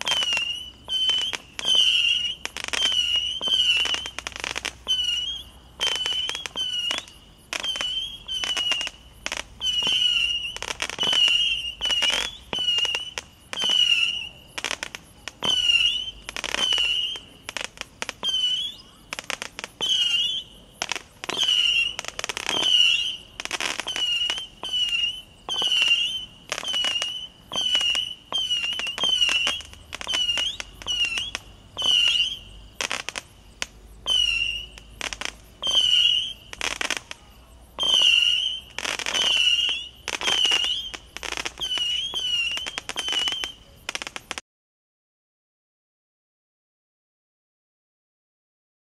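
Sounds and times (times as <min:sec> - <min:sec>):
whistling firework shots with cracks: 0:00.0 - 0:44.4.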